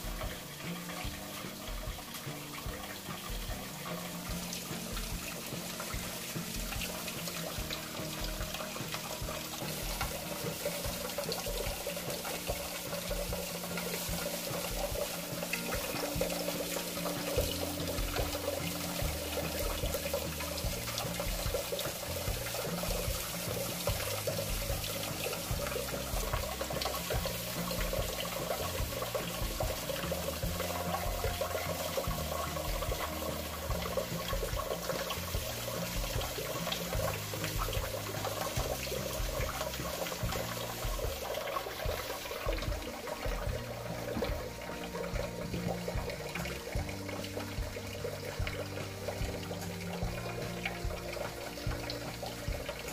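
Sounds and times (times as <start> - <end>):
music with low held notes: 0.0 - 52.9
tap water splashing in sink: 0.0 - 52.9.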